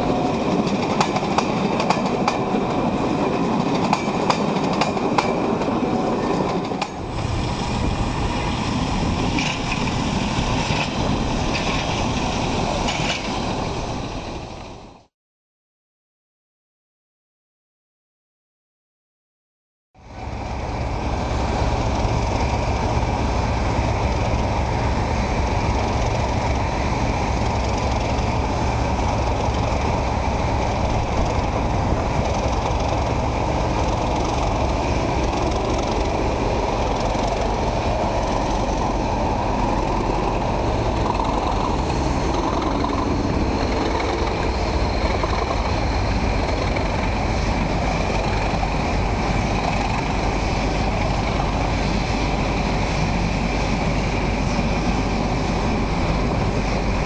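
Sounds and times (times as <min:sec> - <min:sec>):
diesel train engine drone: 0:00.0 - 0:15.1, 0:20.0 - 0:57.0.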